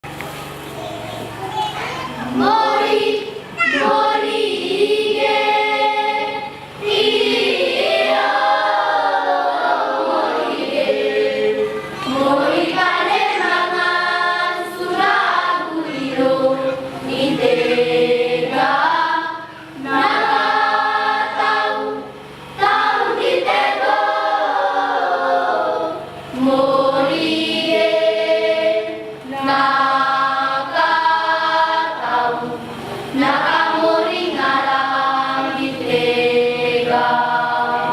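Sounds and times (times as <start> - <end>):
children's choir singing a hymn: 2.1 - 37.9.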